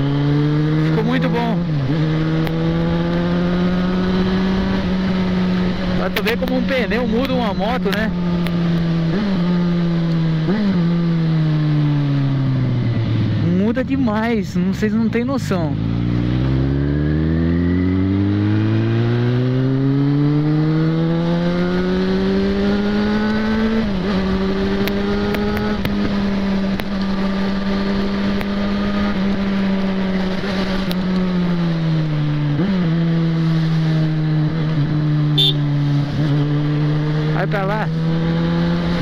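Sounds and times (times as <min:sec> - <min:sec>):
motorcycle engine accelerating: 0:00.0 - 0:39.0
wind and road noise: 0:00.0 - 0:39.0.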